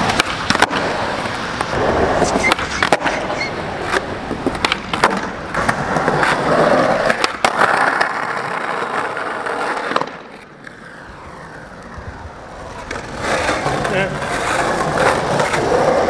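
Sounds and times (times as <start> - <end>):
skateboard clacks: 0.0 - 16.0
skateboard grinding on curb: 0.0 - 16.0
skateboard wheels rolling: 0.0 - 16.0.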